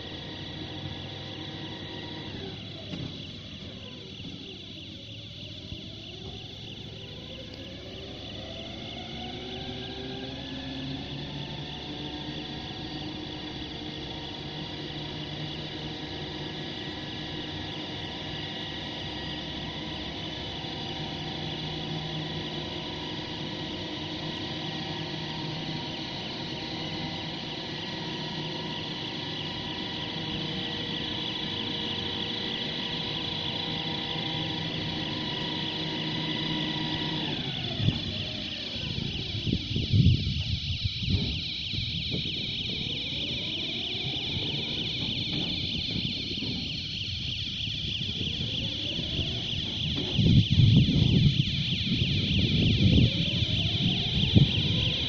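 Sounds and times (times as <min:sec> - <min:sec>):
electric machine hum: 0:00.0 - 0:55.0
high tonal whine: 0:00.0 - 0:55.0.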